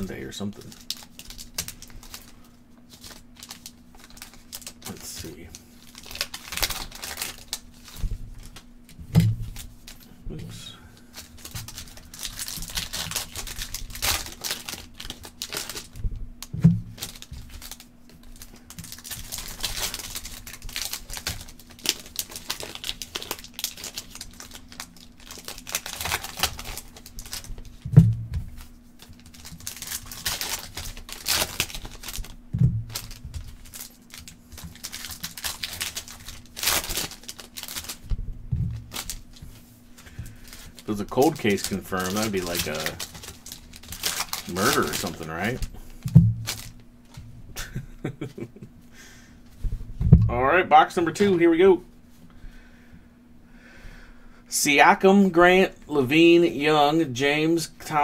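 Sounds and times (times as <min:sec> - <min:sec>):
foil packs crinkling and tearing: 0:00.0 - 0:47.8
faint steady hum: 0:00.0 - 0:58.0.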